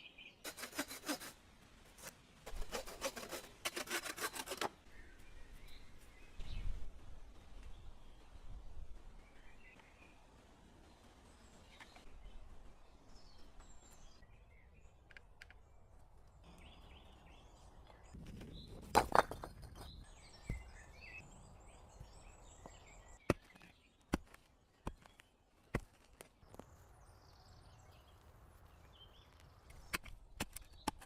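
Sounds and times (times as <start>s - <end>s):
birds chirping: 4.8s - 31.0s.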